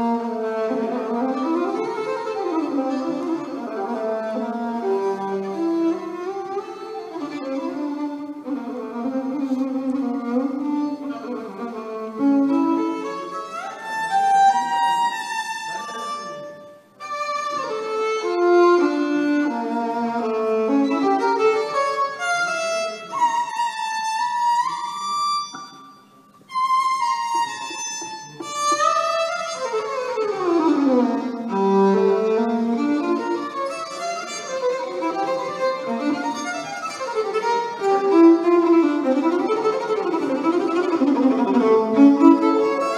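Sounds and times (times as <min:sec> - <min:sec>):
solo violin melody: 0:00.0 - 0:42.9.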